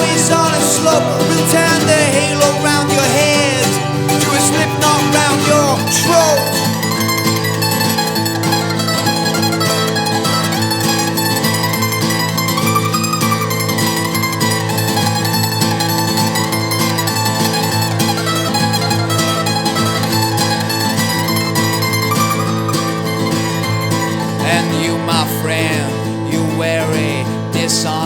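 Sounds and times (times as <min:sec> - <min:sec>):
acoustic string instruments playing: 0:00.0 - 0:25.8.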